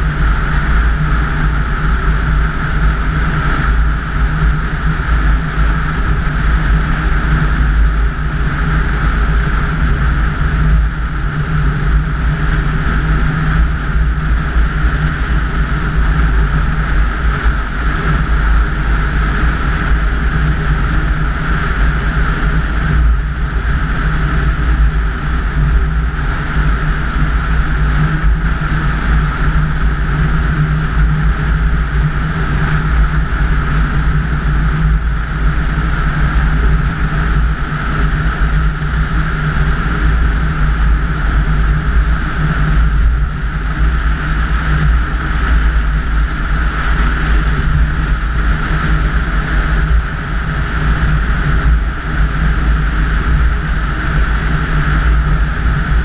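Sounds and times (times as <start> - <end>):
low engine drone: 0.0 - 56.0
wind and tyre noise: 0.0 - 56.0.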